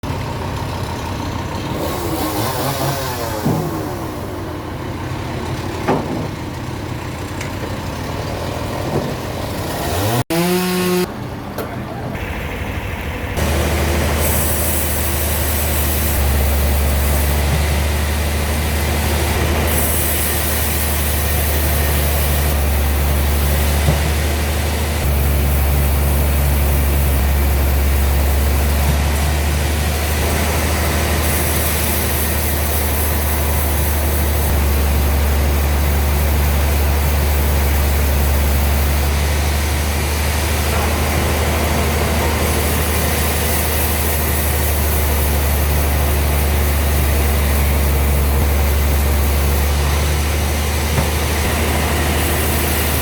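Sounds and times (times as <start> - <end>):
heavy machinery engine running: 0.0 - 53.0.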